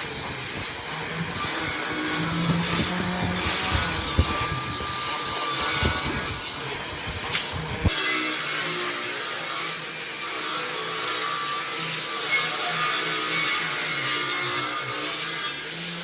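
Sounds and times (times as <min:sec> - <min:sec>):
tool cutting wood: 0:00.0 - 0:16.0.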